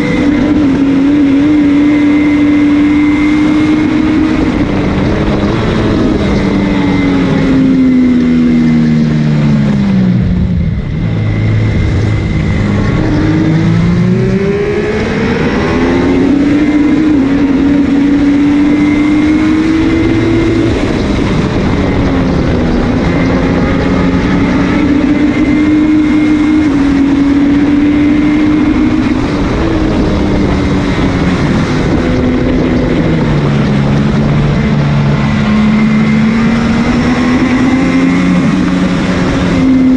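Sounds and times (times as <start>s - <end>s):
racing motorcycle engine: 0.0s - 39.9s
wind rushing across microphone: 0.0s - 39.9s.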